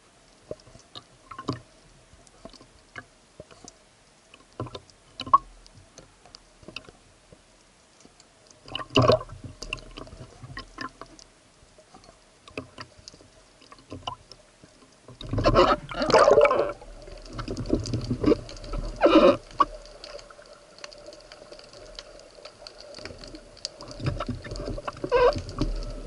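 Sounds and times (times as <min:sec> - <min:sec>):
underwater clicks and knocks: 0:00.5 - 0:01.7, 0:04.4 - 0:07.4, 0:08.0 - 0:11.2, 0:11.9 - 0:26.0.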